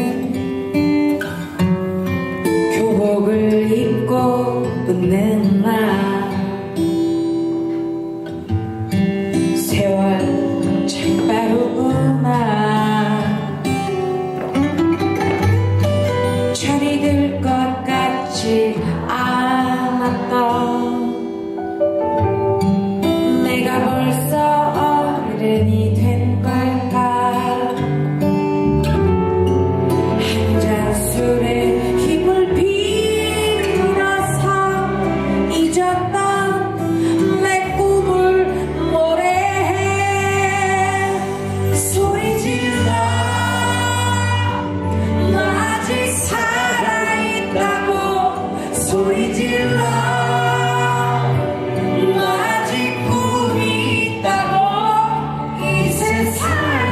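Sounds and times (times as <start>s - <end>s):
woman singing pop song: 0.0s - 1.5s, 2.2s - 6.9s, 9.3s - 14.4s, 16.2s - 21.8s, 23.0s - 28.0s, 30.1s - 56.9s
guitar accompaniment: 0.0s - 56.9s.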